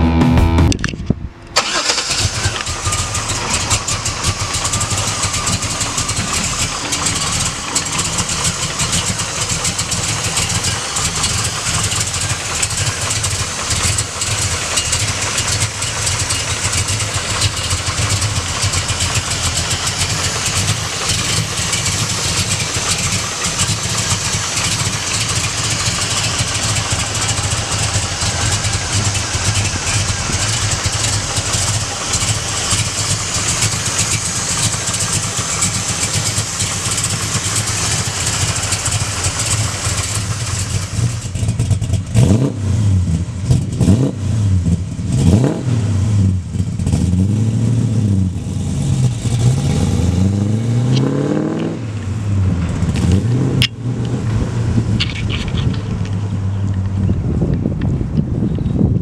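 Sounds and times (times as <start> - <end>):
car engine idling: 0.0 - 50.0, 51.7 - 59.0.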